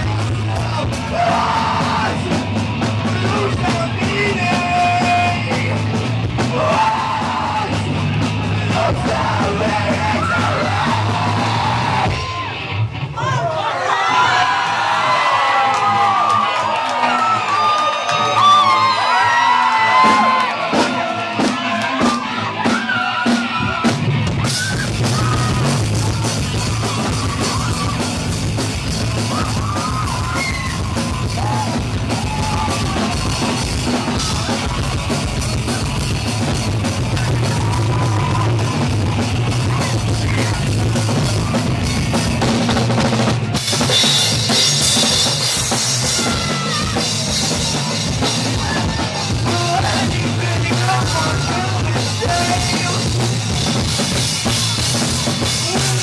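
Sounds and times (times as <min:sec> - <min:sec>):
people yelling: 0:00.0 - 0:05.8, 0:06.4 - 0:43.1, 0:44.0 - 0:56.0
live rock band playing: 0:00.0 - 0:14.4, 0:15.1 - 0:56.0.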